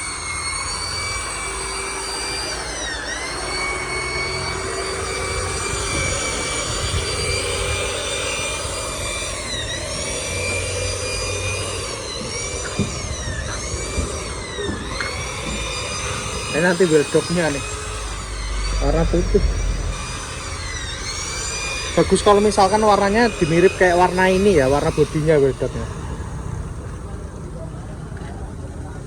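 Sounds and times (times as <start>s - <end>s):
polishing machine whining: 0.0s - 29.0s.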